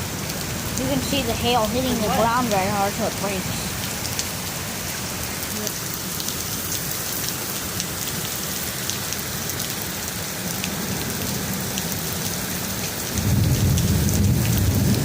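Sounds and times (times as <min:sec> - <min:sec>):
hail hitting the ground: 0:00.0 - 0:15.0.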